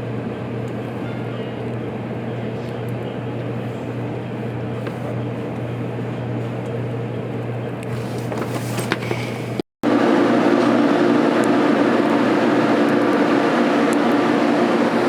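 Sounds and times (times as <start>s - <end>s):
train cab electrical hum: 0.0s - 15.0s.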